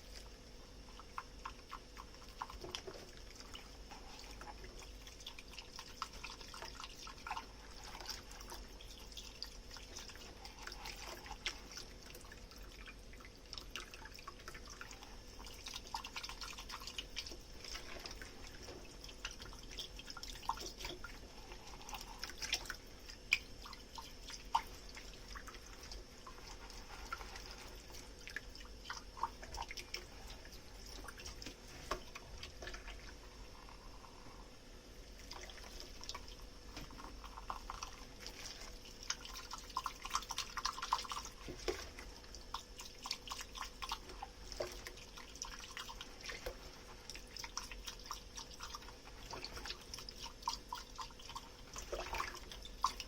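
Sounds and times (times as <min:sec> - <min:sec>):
foamy water squishing and dripping: 0:00.0 - 0:53.0.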